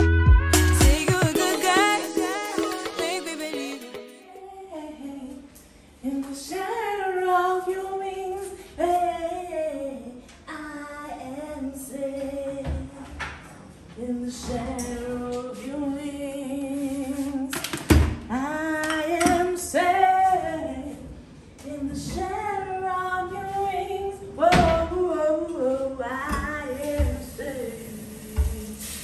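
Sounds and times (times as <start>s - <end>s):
woman singing unaccompanied: 0.0s - 13.2s, 14.0s - 29.0s.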